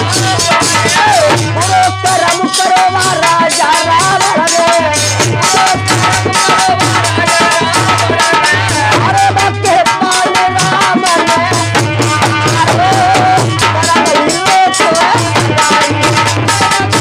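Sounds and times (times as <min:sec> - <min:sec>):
drum beat: 0:00.0 - 0:17.0
harmonium melody: 0:00.0 - 0:17.0
man singing: 0:00.0 - 0:17.0.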